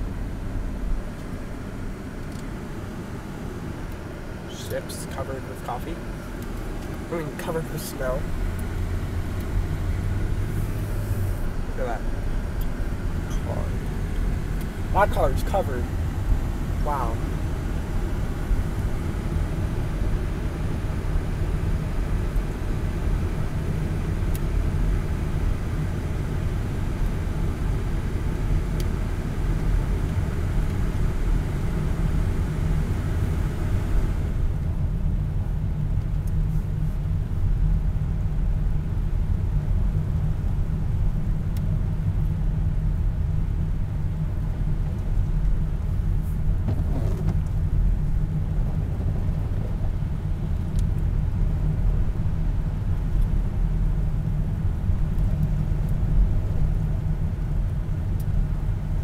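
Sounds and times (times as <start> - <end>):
engine and tyre rumble: 0.0 - 59.0.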